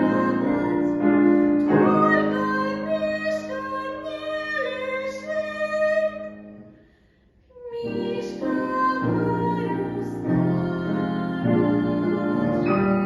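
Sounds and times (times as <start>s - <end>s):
woman singing: 0.0s - 6.6s, 7.5s - 13.0s
piano chords: 0.0s - 6.8s, 7.6s - 13.0s.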